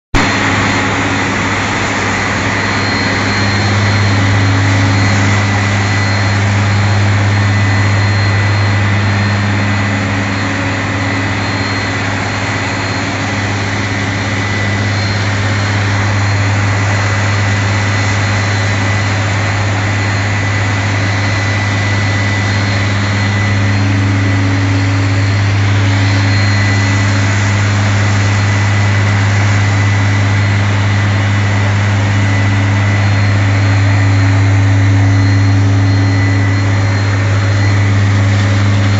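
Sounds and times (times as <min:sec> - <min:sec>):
fire engine idling: 0:00.1 - 0:38.9
faint high whine: 0:00.2 - 0:38.9.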